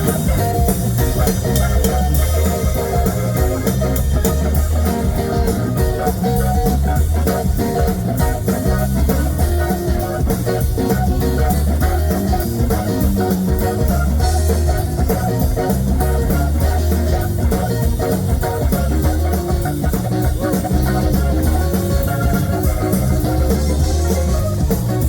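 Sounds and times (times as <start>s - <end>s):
bass: 0.0s - 25.0s
drums in a steady beat: 0.0s - 25.0s
electric guitar: 0.0s - 25.0s.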